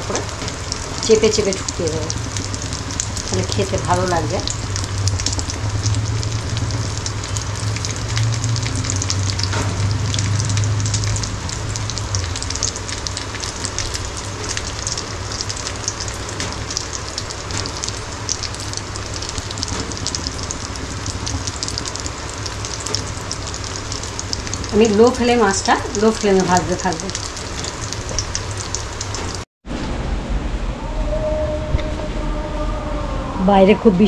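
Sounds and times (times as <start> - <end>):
fish sizzling in oil: 0.0 - 29.4
low hum: 0.0 - 34.0.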